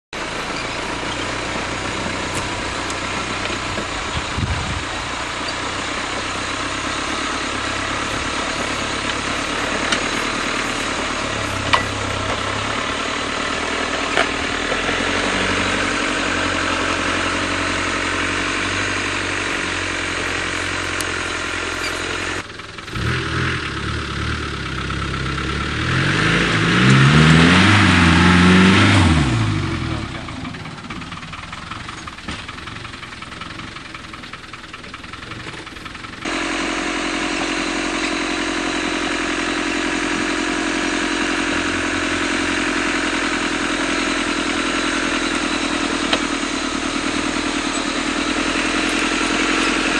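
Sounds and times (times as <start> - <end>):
engine revving: 0.2 - 32.4, 36.2 - 49.9
vehicle engine running: 0.2 - 49.9.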